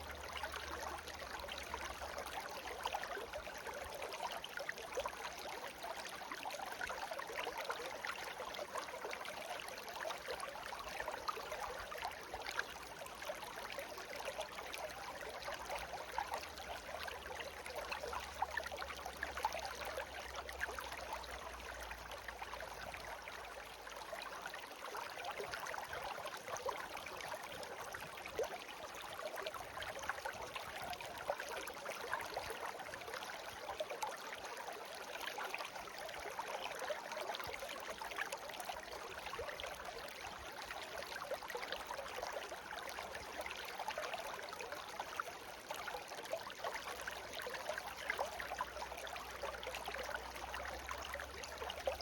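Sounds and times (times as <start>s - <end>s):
brook water babbling: 0.0s - 52.0s.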